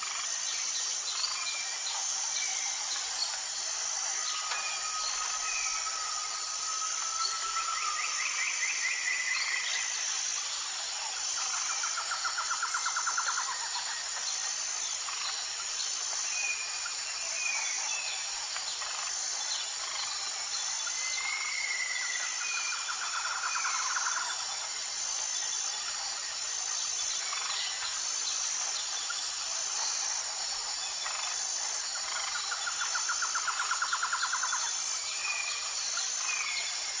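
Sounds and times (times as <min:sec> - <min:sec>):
high-pitched insect chorus: 0:00.0 - 0:37.0.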